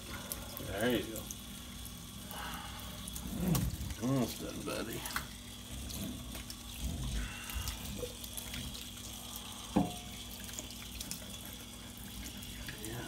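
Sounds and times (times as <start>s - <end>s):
water spraying into steel sink: 0.0s - 13.0s.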